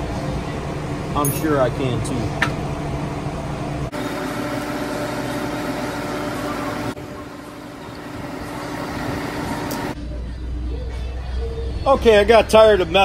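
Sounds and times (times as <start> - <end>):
mechanical hum with low drone: 0.0 - 13.0.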